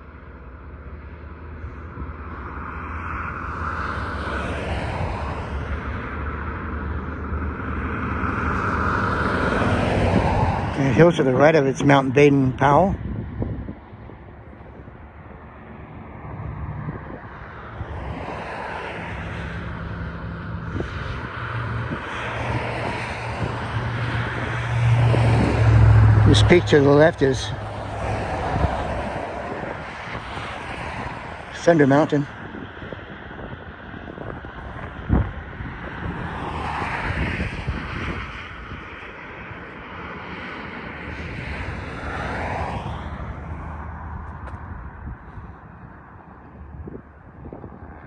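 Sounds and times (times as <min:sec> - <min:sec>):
engine drone with rushing noise: 0:00.0 - 0:48.0
wind buffeting the microphone: 0:04.6 - 0:39.8, 0:40.5 - 0:48.0.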